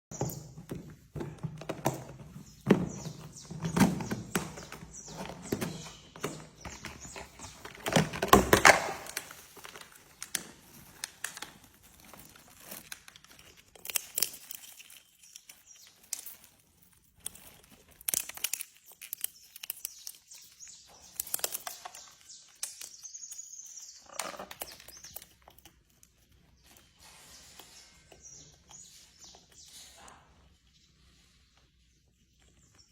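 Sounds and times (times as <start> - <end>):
objects clicking and knocking: 0.1 - 30.2.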